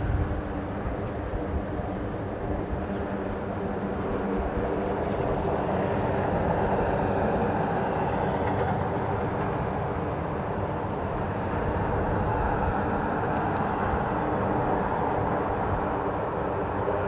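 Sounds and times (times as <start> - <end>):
turboprop engines running: 0.0 - 17.0.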